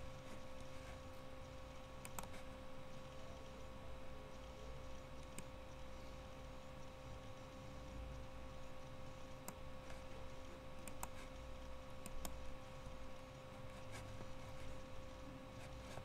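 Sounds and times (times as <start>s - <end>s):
electrical hum: 0.0s - 16.0s
computer mouse clicks: 0.2s - 3.7s, 4.3s - 6.0s, 6.8s - 14.9s.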